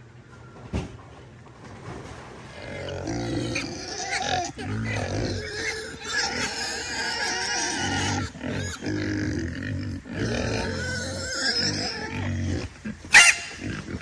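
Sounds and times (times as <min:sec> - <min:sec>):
pigs grunting: 0:02.4 - 0:14.0.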